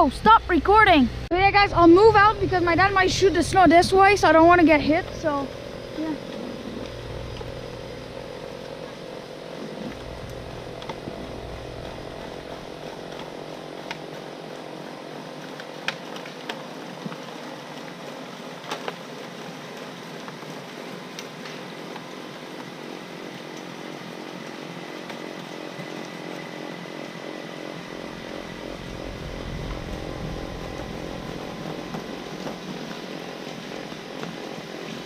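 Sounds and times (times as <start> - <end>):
snowblower engine running: 0.0 - 17.4, 23.2 - 35.0.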